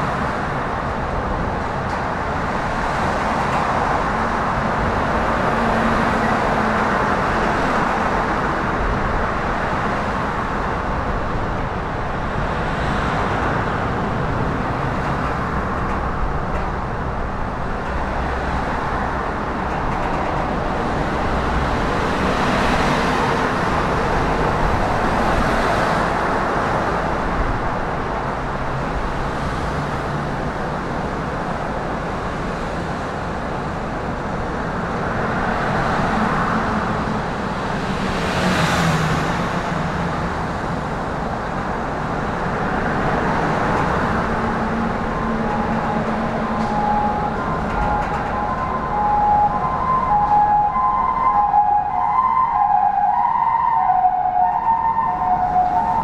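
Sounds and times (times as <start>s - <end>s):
road traffic rumble: 0.0s - 56.0s
vehicles passing by: 0.0s - 56.0s.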